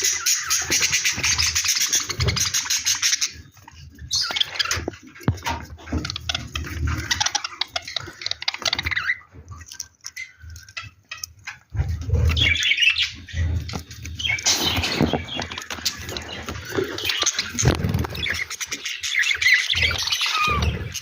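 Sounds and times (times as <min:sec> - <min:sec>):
lovebirds chirping and chattering: 0:00.0 - 0:21.0.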